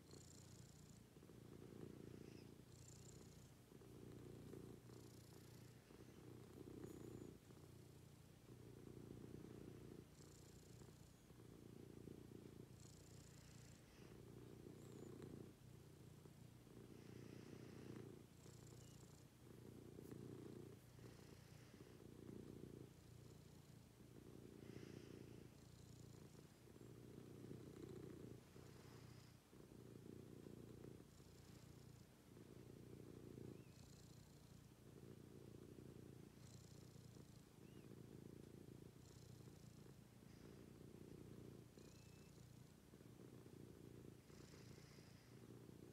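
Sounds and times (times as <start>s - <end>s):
cat purring: 0.0s - 45.9s.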